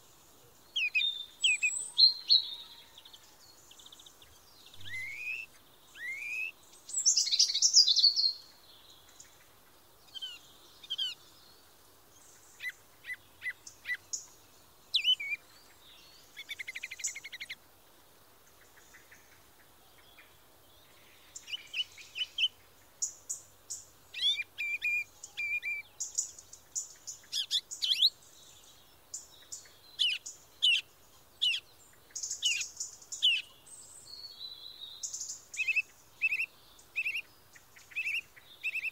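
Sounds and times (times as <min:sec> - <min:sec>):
songbirds chirping and singing: 0:00.0 - 0:17.6, 0:18.5 - 0:38.9.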